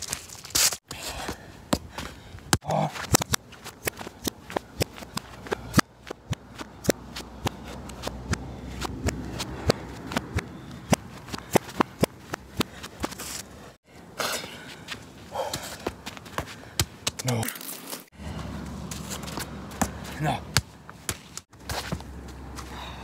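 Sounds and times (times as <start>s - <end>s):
ball touches with feet: 0.0s - 13.6s, 14.4s - 23.0s.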